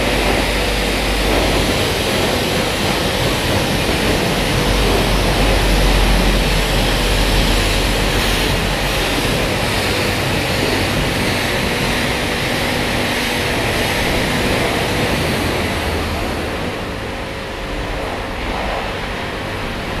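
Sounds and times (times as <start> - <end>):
high-pressure water jet hissing: 0.0 - 20.0
steady hum: 0.0 - 20.0.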